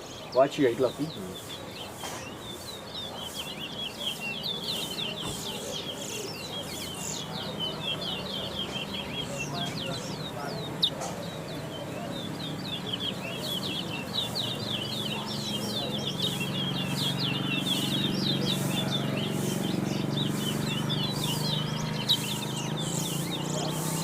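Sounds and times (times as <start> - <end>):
finch chirping: 0.0 - 24.0.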